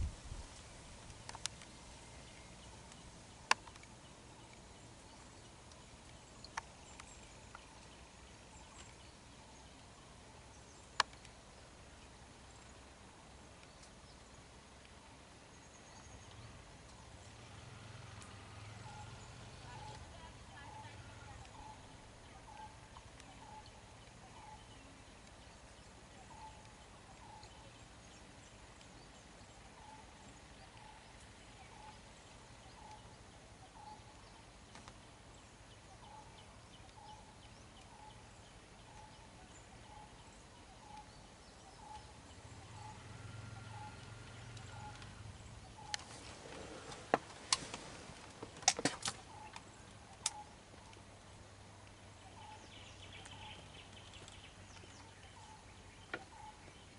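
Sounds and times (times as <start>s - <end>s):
faint low hum: 0.0s - 56.9s.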